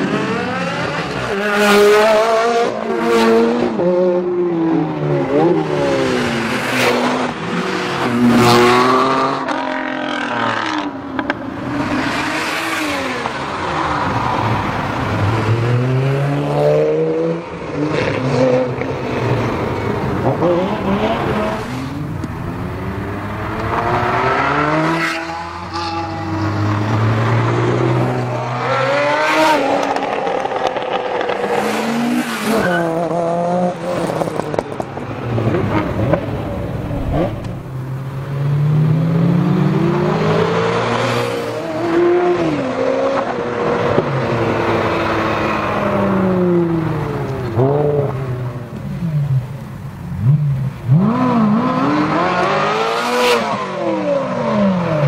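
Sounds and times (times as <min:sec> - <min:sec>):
engines revving: 0:00.0 - 0:49.5
sports cars driving past: 0:00.0 - 0:55.0.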